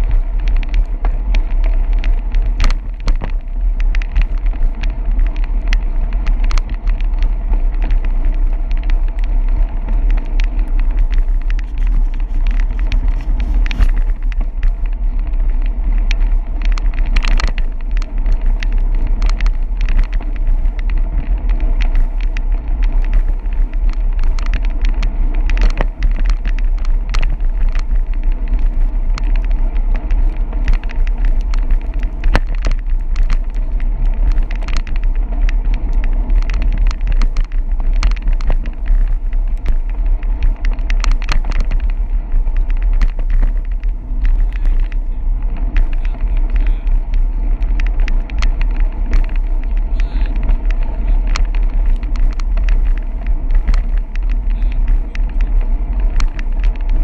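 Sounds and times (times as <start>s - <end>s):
sharp ticks and knocks: 0.0s - 57.0s
wind buffeting microphone: 0.0s - 57.0s.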